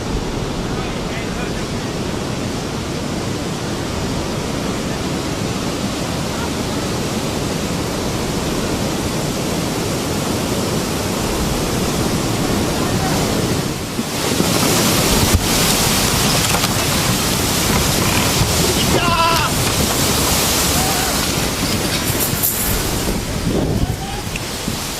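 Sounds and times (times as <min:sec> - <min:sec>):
seawater rushing: 0:00.0 - 0:24.9
wind buffeting microphone: 0:00.0 - 0:24.9.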